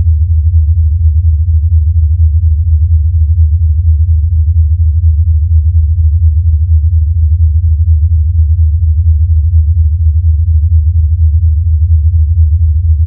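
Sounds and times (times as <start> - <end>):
low electronic hum with flutter: 0.0 - 13.0.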